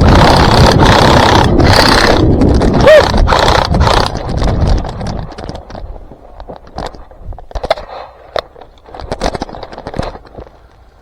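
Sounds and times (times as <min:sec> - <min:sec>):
sharp clicks and crackles: 0:00.0 - 0:10.8.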